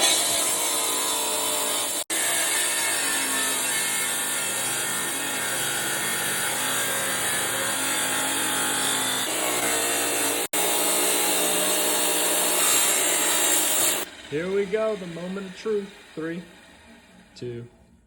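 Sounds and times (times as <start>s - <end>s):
rock saw grinding stone: 0.0s - 16.7s.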